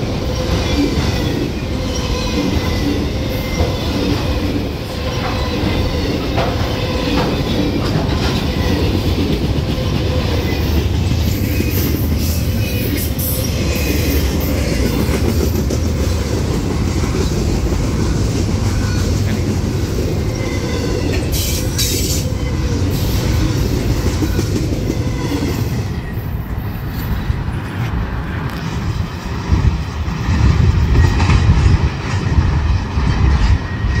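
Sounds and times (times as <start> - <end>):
clickety-clack over rail joints: 0.0 - 34.0
freight train wheels rumbling on rails: 0.0 - 34.0.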